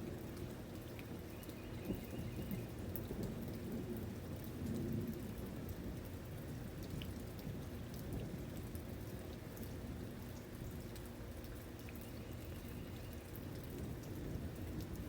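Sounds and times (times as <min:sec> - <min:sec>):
rain drops ticking: 0:00.0 - 0:15.0
steady rain: 0:00.0 - 0:15.0.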